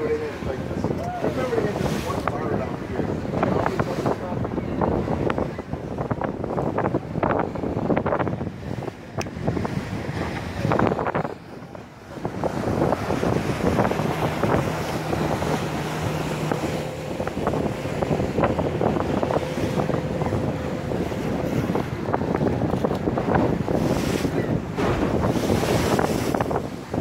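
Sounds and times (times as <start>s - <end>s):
water splashing against hull: 0.0s - 27.0s
wind buffeting microphone: 0.0s - 27.0s.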